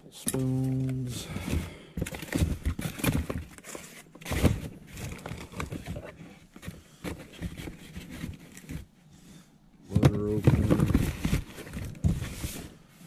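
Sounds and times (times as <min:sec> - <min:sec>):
cardboard rustling and scraping: 0:00.4 - 0:09.0, 0:09.8 - 0:13.0.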